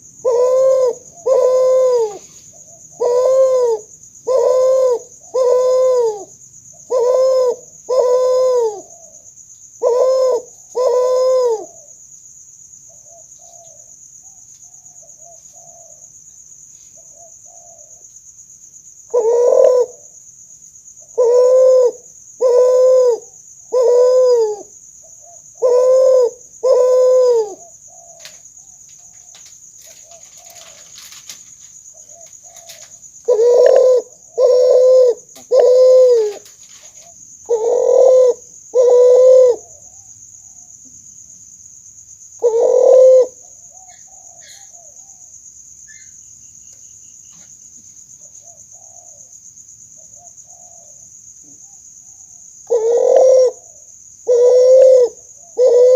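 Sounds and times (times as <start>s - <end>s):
dove cooing: 0.0s - 12.0s, 12.9s - 16.1s, 17.0s - 18.0s, 19.1s - 20.2s, 21.0s - 40.7s, 42.4s - 45.2s, 48.2s - 49.3s, 50.0s - 55.9s.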